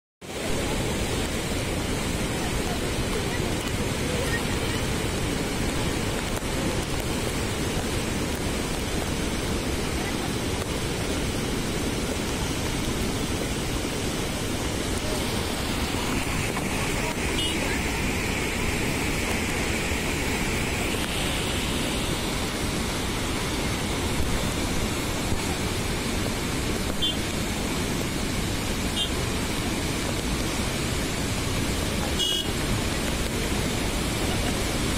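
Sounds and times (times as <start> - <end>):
floodwater rushing over weir: 0.2 - 34.9.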